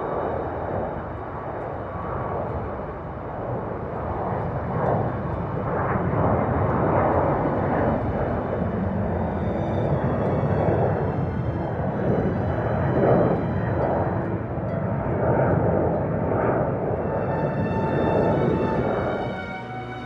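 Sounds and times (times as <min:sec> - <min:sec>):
airliner engines taking off: 0:00.0 - 0:20.0.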